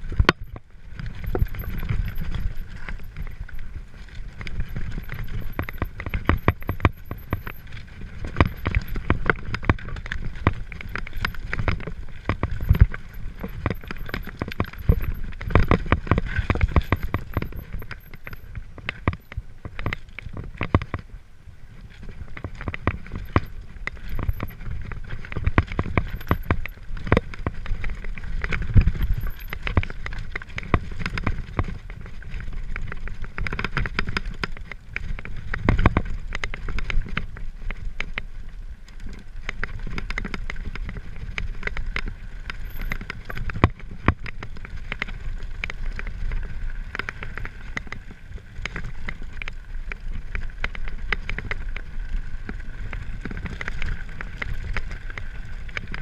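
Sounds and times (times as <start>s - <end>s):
bike rattling and knocking: 0.0s - 21.2s, 21.8s - 56.0s
tyres crunching on loose stones: 0.0s - 56.0s
wind rumble on microphone: 0.0s - 56.0s.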